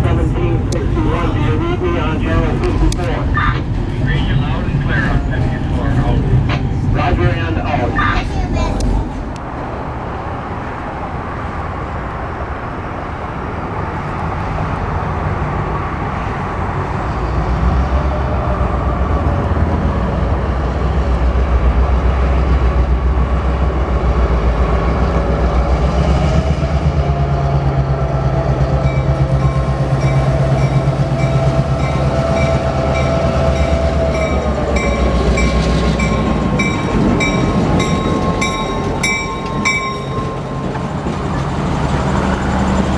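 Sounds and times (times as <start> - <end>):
diesel locomotive engine: 0.0 - 42.9
train cars running: 0.0 - 42.9.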